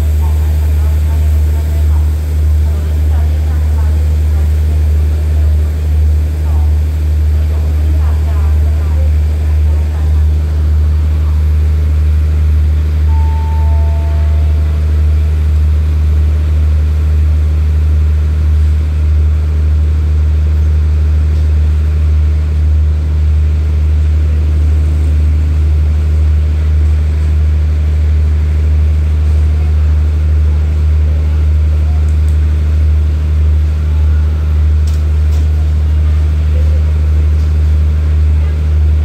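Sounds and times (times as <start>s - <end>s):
diesel train idling hum: 0.0s - 39.0s.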